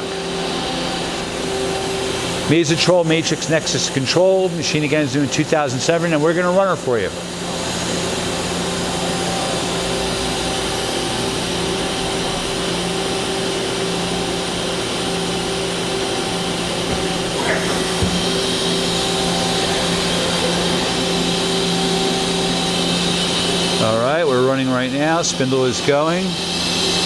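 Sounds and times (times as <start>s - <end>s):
machine hum and hiss: 0.0s - 27.0s.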